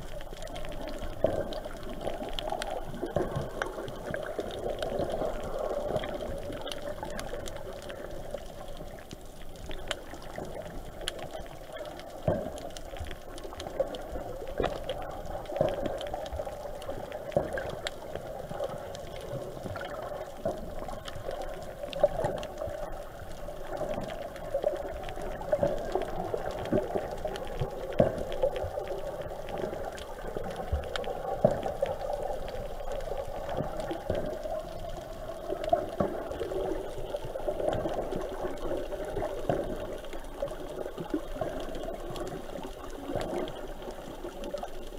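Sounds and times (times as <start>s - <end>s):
muffled underwater rush: 0.0s - 44.9s.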